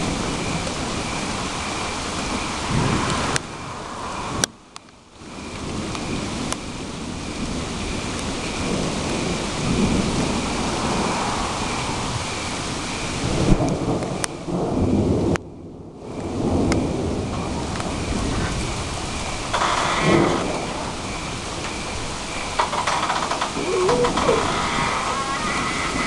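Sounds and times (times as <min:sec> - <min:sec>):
low rolling thunder: 0:00.0 - 0:26.0
steady rain: 0:00.0 - 0:26.0.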